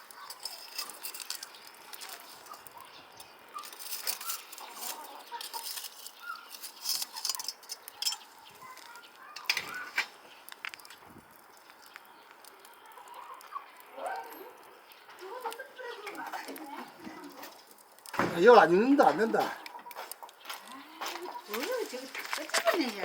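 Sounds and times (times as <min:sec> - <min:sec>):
chickens clucking: 0:00.0 - 0:23.0
wood fire crackling: 0:00.0 - 0:23.0.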